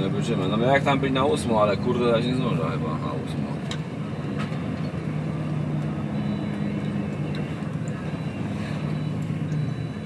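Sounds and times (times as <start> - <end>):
truck diesel engine drone: 0.0 - 10.0.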